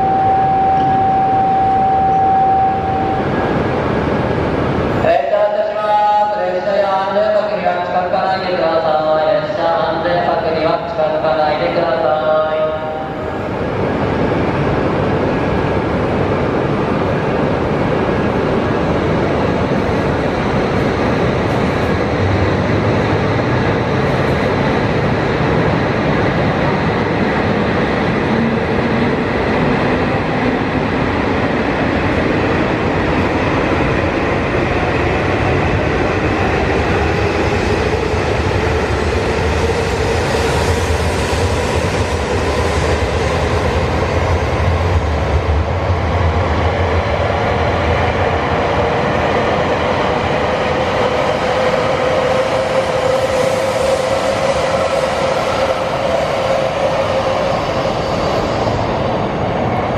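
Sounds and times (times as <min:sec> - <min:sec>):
rolling rumble of train wheels: 0:00.0 - 0:59.9.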